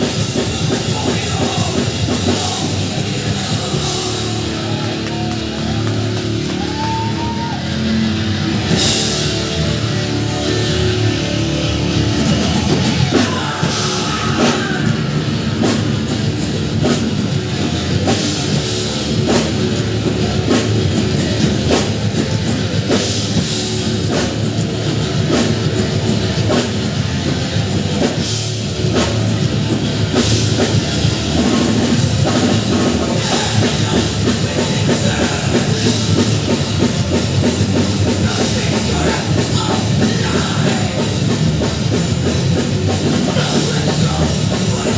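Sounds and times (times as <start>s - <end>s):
distorted guitars: 0.0s - 44.9s
driving drum kit: 0.0s - 44.9s.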